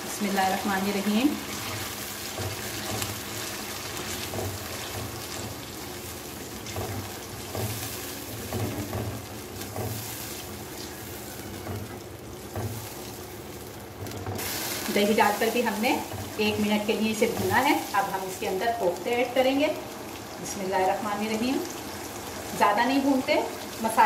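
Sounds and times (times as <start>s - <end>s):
yogurt sizzling in hot oil: 0.0s - 24.0s.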